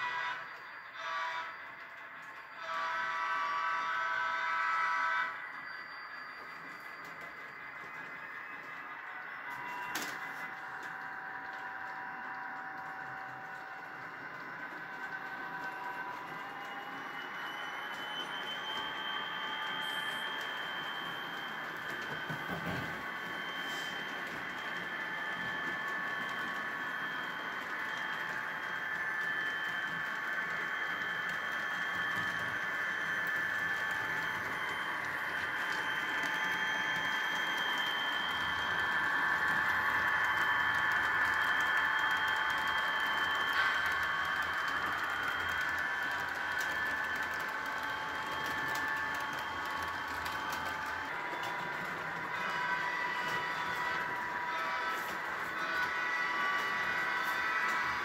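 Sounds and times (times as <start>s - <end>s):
model train motor whine: 0.0s - 58.0s
wheels clicking over rails: 5.6s - 58.0s.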